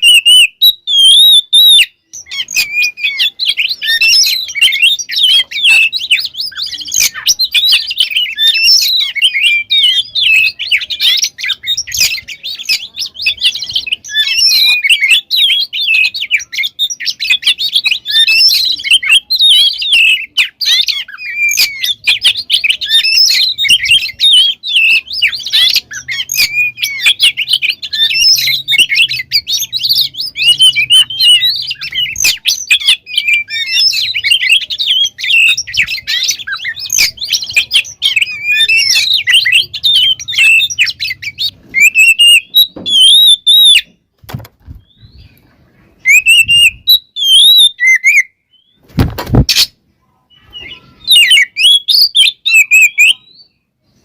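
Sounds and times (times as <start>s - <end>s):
bird singing: 0.0s - 44.1s, 44.7s - 48.9s, 49.5s - 54.0s.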